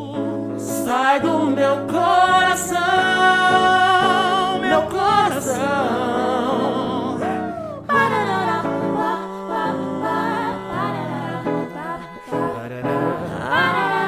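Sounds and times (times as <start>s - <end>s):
voices singing gliding notes: 0.9s - 14.0s.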